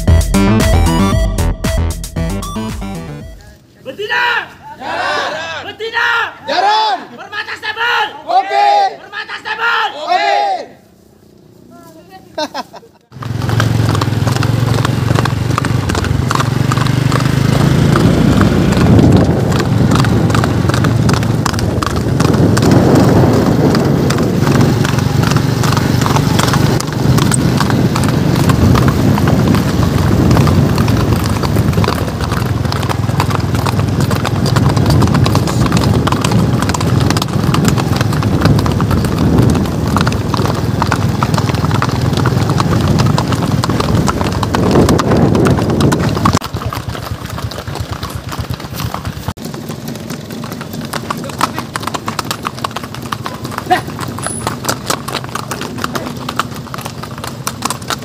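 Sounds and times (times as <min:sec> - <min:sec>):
horse hooves on concrete: 0:10.8 - 0:58.0.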